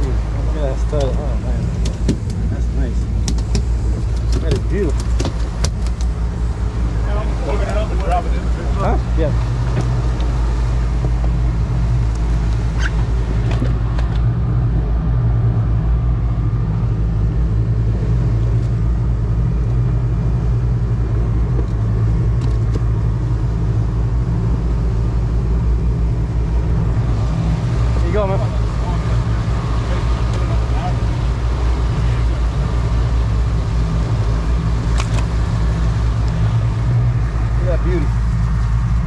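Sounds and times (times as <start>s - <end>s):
outboard engines droning: 0.0s - 39.0s.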